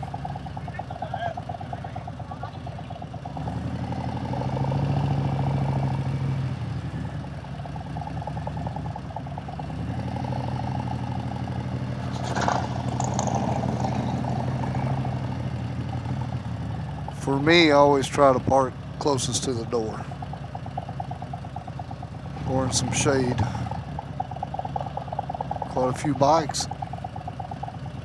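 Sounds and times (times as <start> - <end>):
motorcycle engine at low speed: 0.0 - 28.0.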